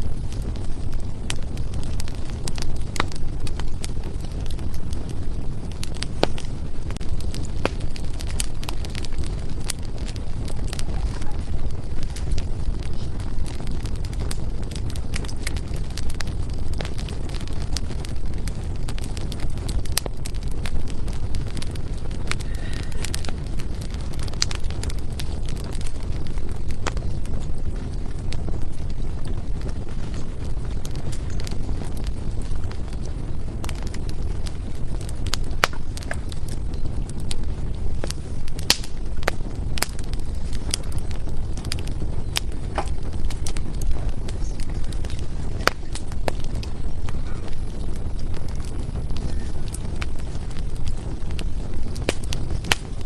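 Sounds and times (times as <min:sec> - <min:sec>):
fire roaring in fireplace: 0:00.0 - 0:53.0
firewood crackling and popping: 0:00.0 - 0:53.0
low rumble of flames: 0:00.0 - 0:53.0.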